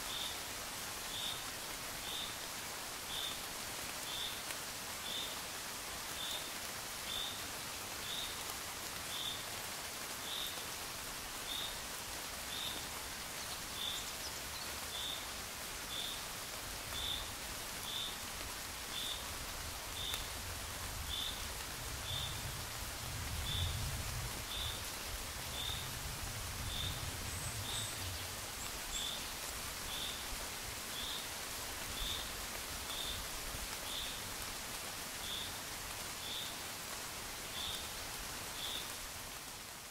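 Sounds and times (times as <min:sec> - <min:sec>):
gentle rain hissing: 0:00.0 - 0:39.9.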